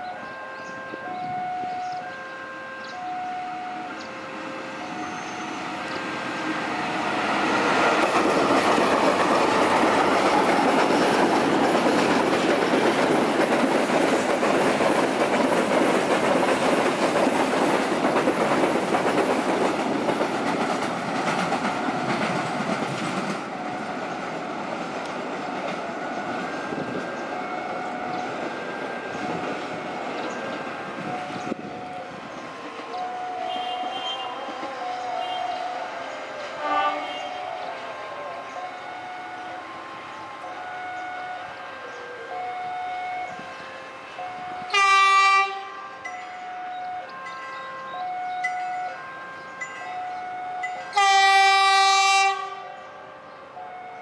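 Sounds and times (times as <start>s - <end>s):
diesel locomotive engines: 0.0s - 54.0s
railway warning alarm: 0.0s - 54.0s.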